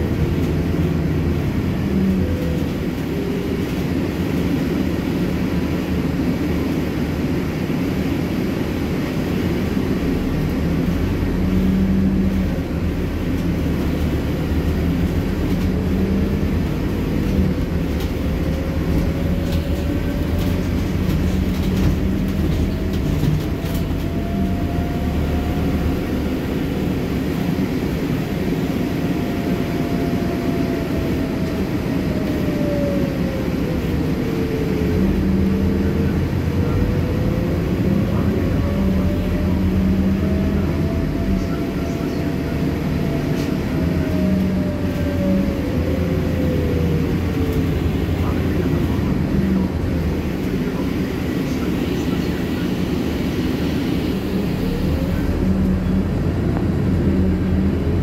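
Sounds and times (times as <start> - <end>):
bus engine rumble: 0.0 - 58.0
bus whine: 0.0 - 58.0
loud air conditioning: 0.0 - 58.0.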